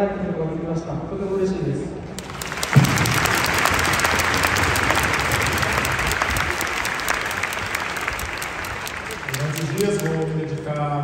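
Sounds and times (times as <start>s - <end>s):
stadium crowd applauding: 2.2s - 11.0s.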